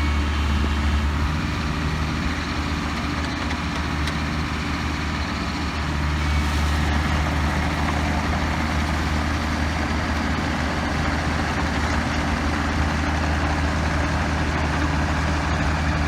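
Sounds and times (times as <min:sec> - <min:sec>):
excavator diesel engine idling: 0:00.0 - 0:16.0.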